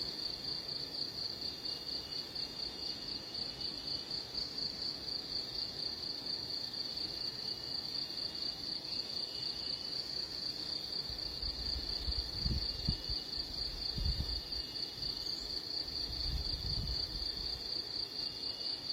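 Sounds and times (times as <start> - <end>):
insect chorus trilling: 0.0 - 18.9.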